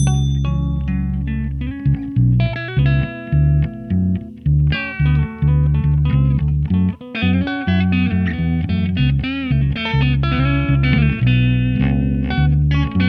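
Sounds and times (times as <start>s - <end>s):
bass line: 0.0s - 13.0s
guitar melody: 0.0s - 13.0s.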